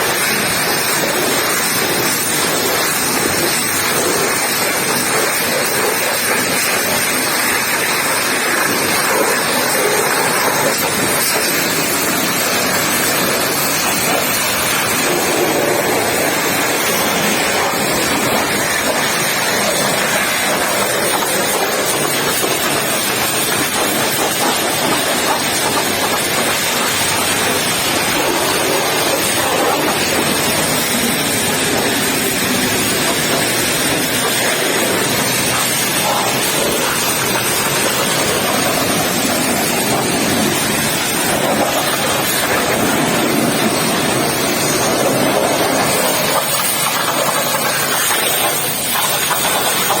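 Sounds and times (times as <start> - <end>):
pressure washer spraying water: 0.0 - 50.0.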